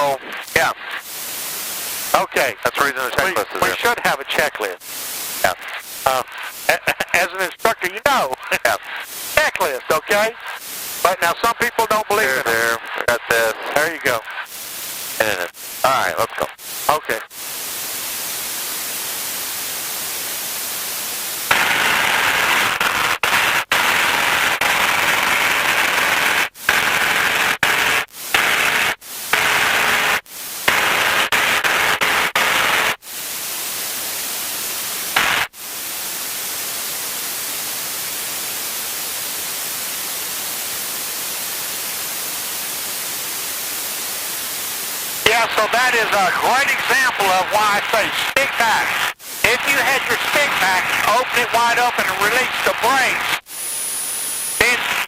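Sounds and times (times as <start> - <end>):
intercom static hiss: 0.0 - 55.0.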